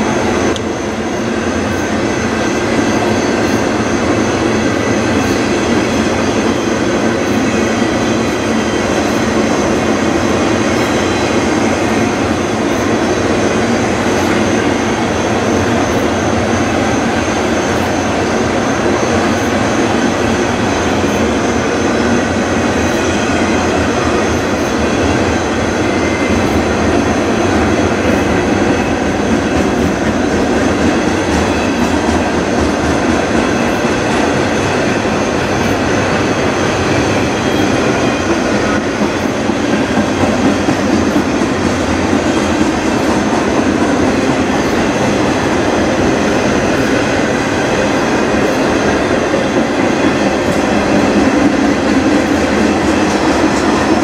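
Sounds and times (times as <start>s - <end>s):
steel wheels on rail: 0.0s - 54.0s.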